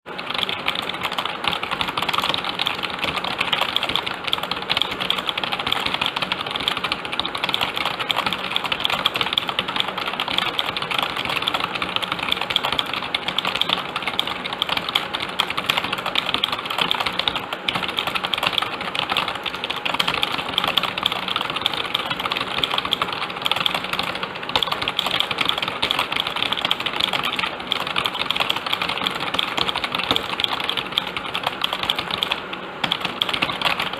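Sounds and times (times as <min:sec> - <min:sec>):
fast keyboard typing: 0:00.1 - 0:33.9.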